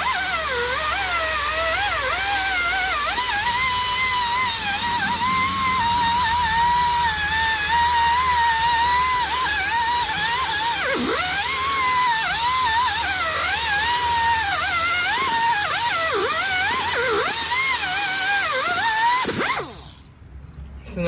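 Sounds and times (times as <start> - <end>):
angle grinder grinding rust: 0.0 - 20.0.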